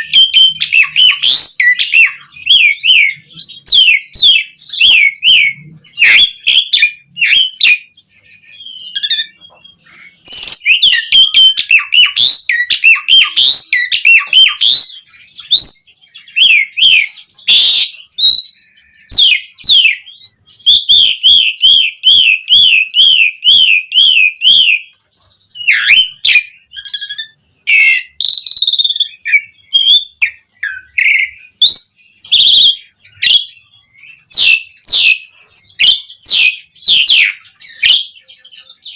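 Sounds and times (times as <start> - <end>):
bird trill: 0.0 - 38.9
starling singing: 0.0 - 38.9.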